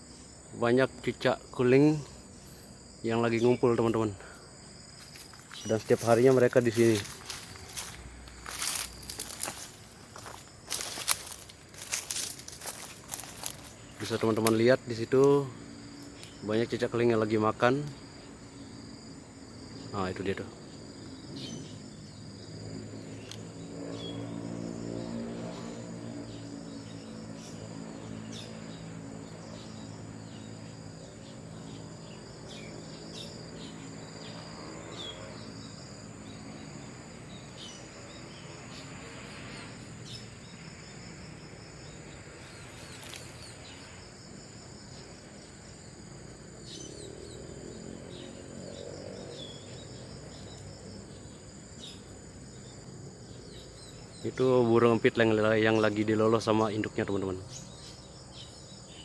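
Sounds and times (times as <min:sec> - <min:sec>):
insect chorus: 0:00.0 - 0:59.0
starlings chirping: 0:00.0 - 0:59.0.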